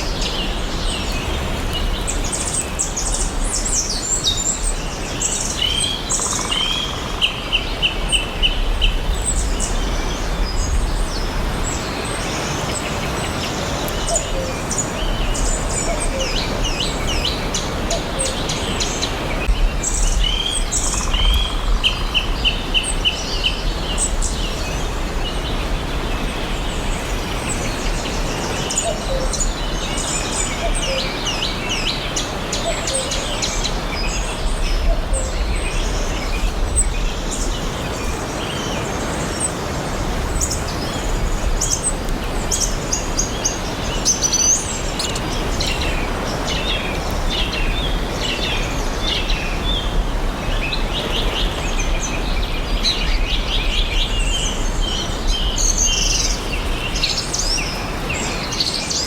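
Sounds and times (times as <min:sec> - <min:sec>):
birds chirping and singing: 0:00.0 - 0:59.0
steady background hiss: 0:00.0 - 0:59.0.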